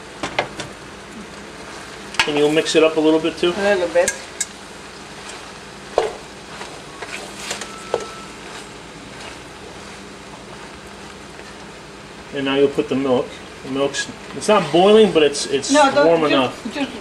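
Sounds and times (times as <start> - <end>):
frying sizzle: 0.0 - 17.0.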